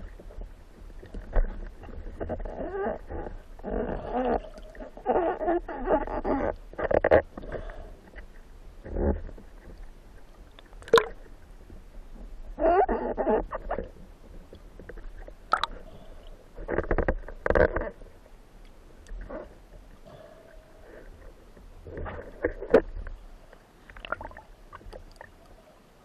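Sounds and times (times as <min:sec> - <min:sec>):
underwater clicks and knocks: 0:00.0 - 0:25.3
underwater gurgling: 0:00.0 - 0:26.0.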